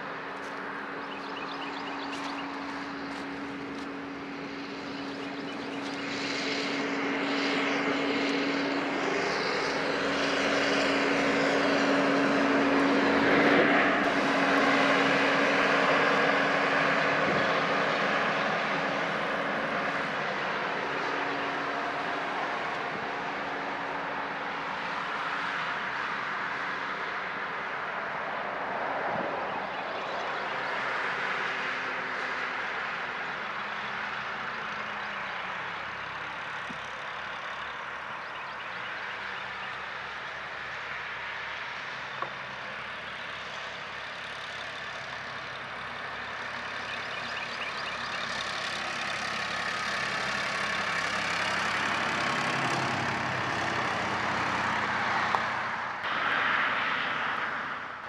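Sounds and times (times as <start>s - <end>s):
tractor backhoe driving: 0.0s - 27.3s, 30.4s - 58.0s
cars driving: 0.0s - 58.0s
tyre and engine noise: 0.0s - 58.0s.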